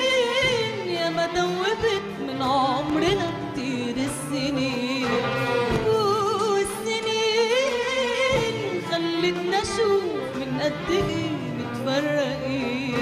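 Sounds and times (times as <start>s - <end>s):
orchestral strings: 0.0s - 13.0s
woman singing with vibrato: 0.0s - 13.0s.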